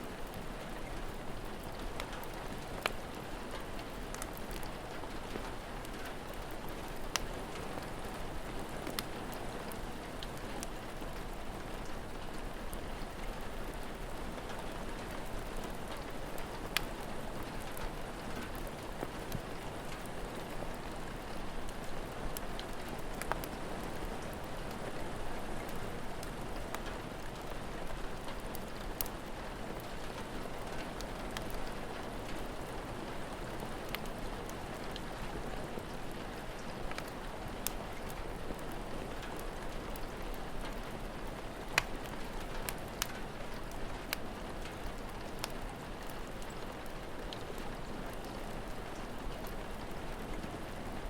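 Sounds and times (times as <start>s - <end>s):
rain falling: 0.0s - 51.0s
wood fire popping and crackling: 0.1s - 51.0s.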